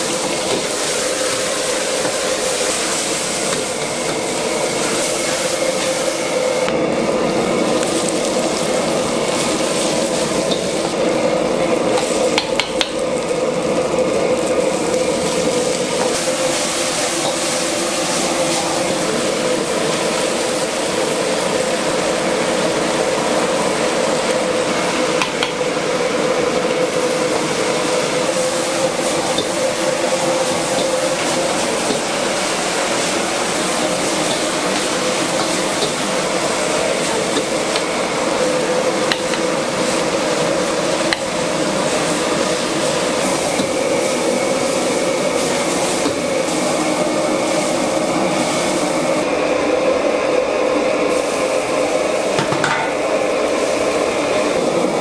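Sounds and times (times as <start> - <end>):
vegetables sizzling: 0.0 - 49.3, 51.0 - 55.0
gas burner roaring: 0.0 - 55.0.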